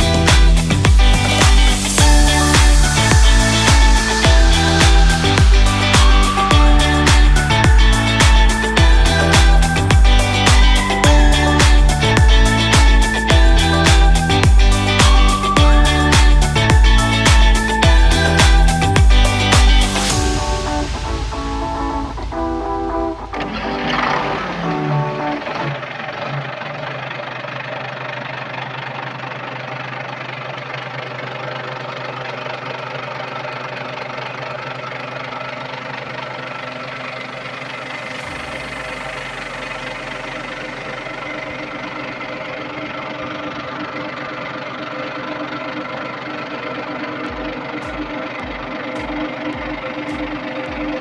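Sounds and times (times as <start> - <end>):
diesel engine running steadily: 0.0 - 51.0.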